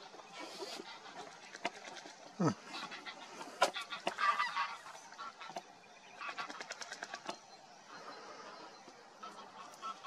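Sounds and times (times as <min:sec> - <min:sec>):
water birds goose-like calls: 0:00.0 - 0:10.0.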